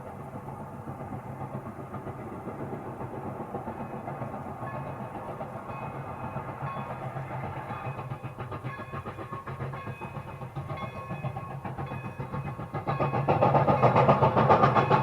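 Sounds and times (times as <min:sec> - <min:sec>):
steam locomotive pulsing rumble: 0:00.0 - 0:15.0.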